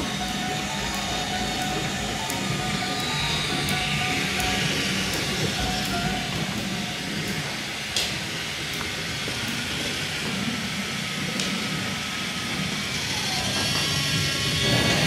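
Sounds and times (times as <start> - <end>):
toy train motors whirring: 0.0 - 15.0.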